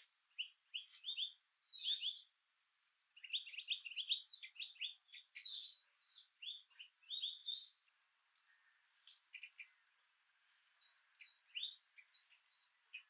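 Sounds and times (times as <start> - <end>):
songbirds twittering: 0.0 - 13.0.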